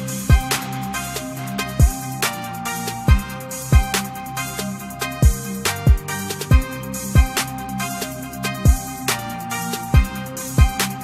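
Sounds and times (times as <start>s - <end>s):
electronic music with kick drums: 0.0s - 11.0s.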